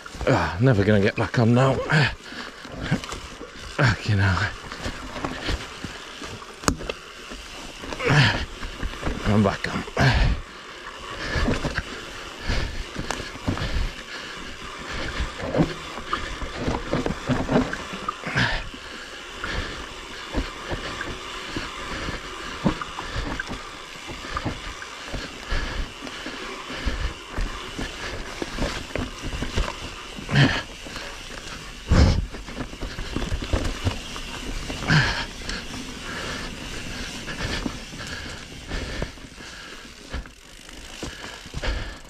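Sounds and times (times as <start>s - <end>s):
bike rattling and knocking: 0.0s - 42.0s
bike tyres rolling over loose soil: 0.0s - 42.0s.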